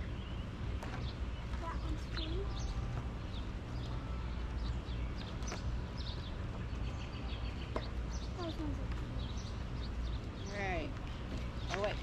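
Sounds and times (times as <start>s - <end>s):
low outdoor rumble: 0.0s - 12.0s
small birds chirping: 0.0s - 12.0s.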